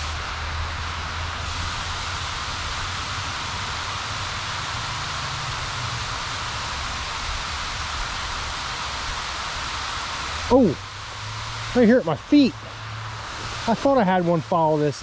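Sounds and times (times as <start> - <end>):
river rushing hiss: 0.0 - 15.0.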